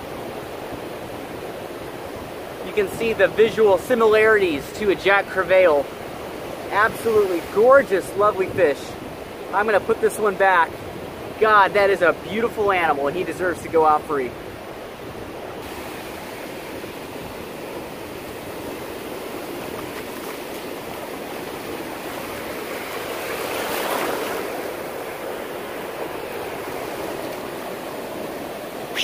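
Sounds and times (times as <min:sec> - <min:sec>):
surf washing over sand: 0:00.0 - 0:29.0.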